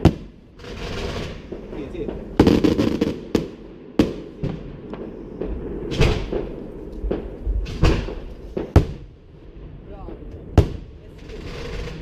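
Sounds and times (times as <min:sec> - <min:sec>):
fireworks bangs: 0:00.0 - 0:12.0
low rumble: 0:00.0 - 0:12.0.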